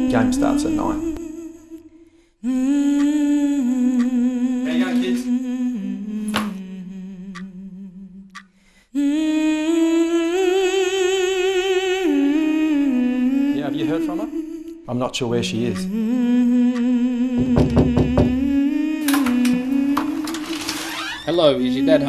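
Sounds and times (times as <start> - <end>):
wordless humming voice: 0.0 - 1.8, 2.4 - 8.0, 9.0 - 20.6.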